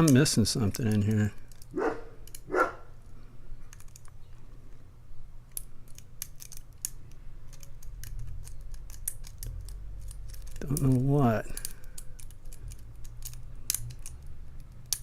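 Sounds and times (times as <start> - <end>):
lock pick clicking and scraping: 0.0 - 2.5, 3.6 - 4.3, 5.4 - 15.0.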